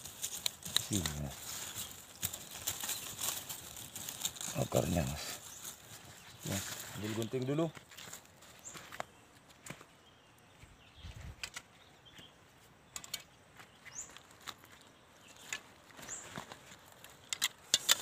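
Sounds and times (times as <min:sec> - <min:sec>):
hands working loose soil: 0:00.0 - 0:10.0, 0:13.5 - 0:18.0.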